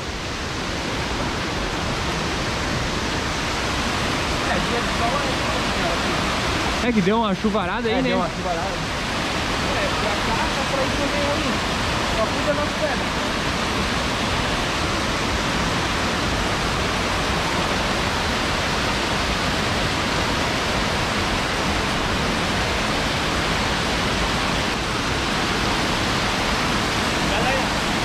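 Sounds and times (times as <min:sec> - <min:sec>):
waterfall and rapids rushing over rocks: 0:00.0 - 0:28.0.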